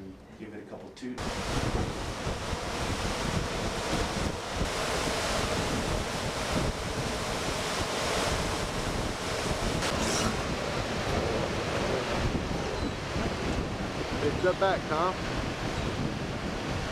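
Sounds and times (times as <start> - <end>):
wind buffeting microphone: 1.2 - 16.9.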